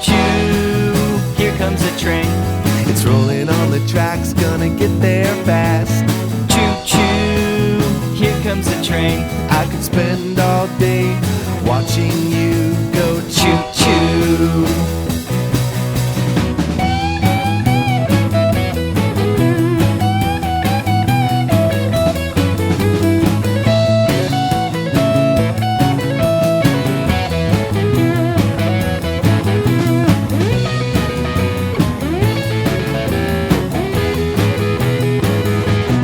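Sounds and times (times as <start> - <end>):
bass: 0.0 - 36.0
lead guitar with bending notes: 0.0 - 36.0
steady drum beat: 0.0 - 36.0.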